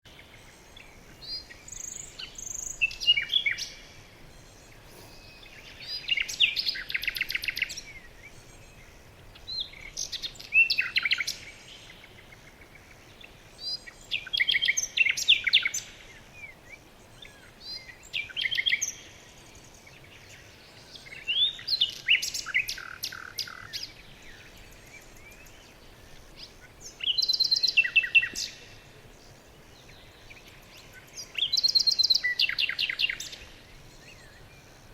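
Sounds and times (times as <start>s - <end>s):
songbird chirping and trilling: 0.1s - 34.9s.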